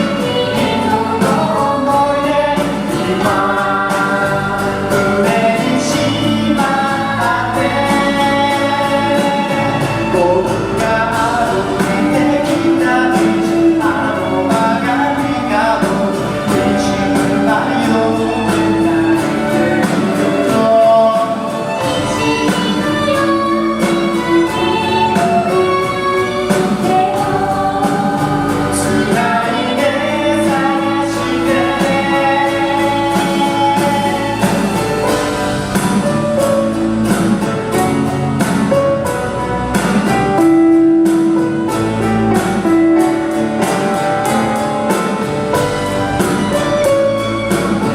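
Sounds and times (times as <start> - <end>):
live pop-rock band with vocals: 0.0 - 47.9.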